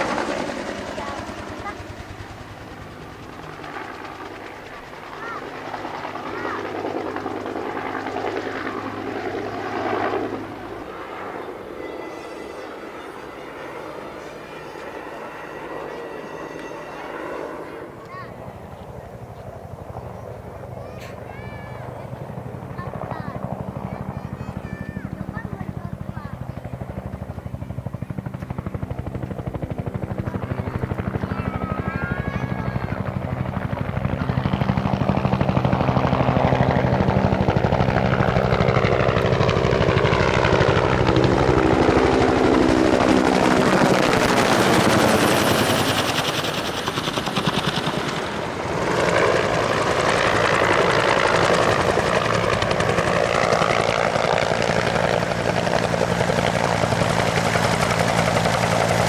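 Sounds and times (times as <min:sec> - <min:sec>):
helicopter rotor thump and turbine: 0:00.0 - 0:11.4, 0:17.2 - 0:59.0.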